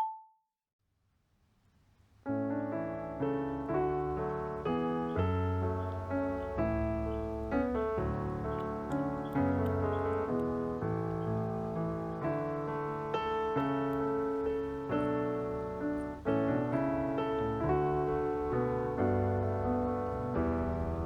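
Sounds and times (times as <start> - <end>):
gentle piano music: 2.3 - 21.0.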